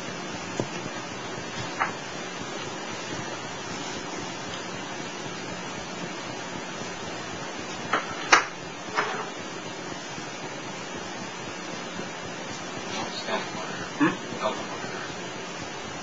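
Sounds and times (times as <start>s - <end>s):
old recording hiss: 0.0s - 16.0s.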